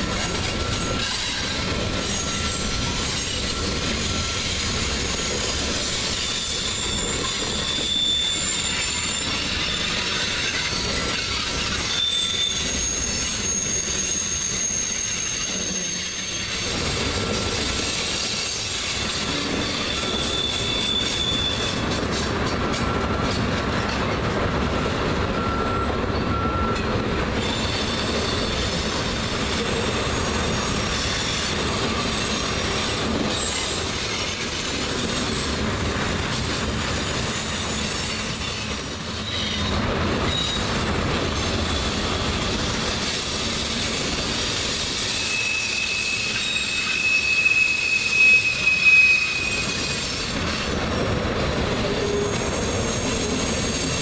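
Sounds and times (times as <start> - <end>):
high wheel squeals: 0.0 - 23.0, 25.4 - 40.8, 41.4 - 50.8, 51.7 - 54.0
steel wheels rolling on rail: 0.0 - 54.0.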